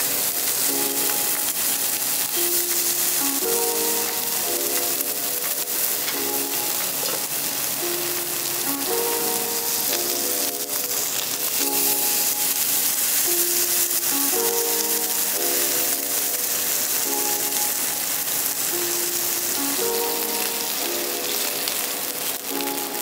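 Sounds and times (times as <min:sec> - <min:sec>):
crackly hiss: 0:00.0 - 0:23.0
soft sustained chord music: 0:00.0 - 0:23.0.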